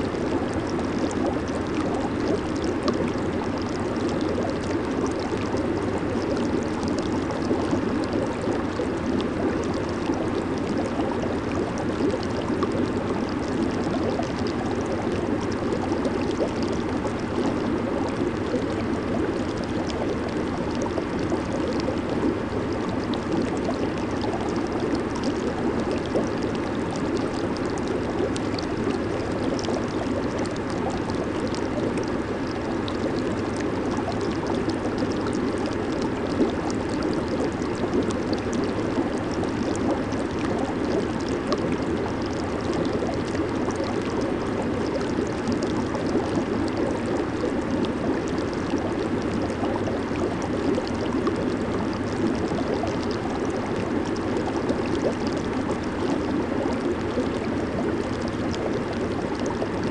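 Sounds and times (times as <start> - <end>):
bubbles fizzing: 0.0 - 59.9
hot tub water gurgling: 0.0 - 59.9.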